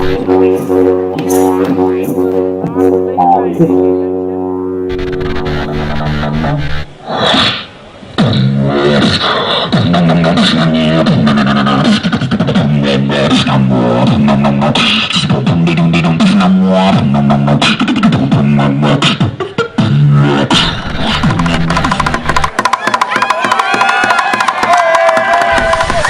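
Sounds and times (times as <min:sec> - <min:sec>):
beatboxing: 0:00.0 - 0:04.1, 0:04.9 - 0:22.9.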